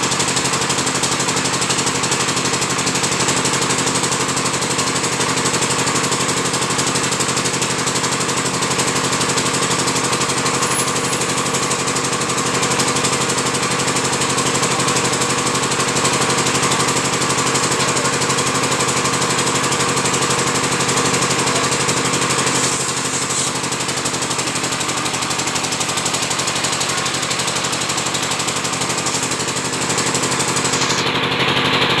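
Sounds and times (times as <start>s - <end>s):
small engine idling: 0.0s - 32.0s.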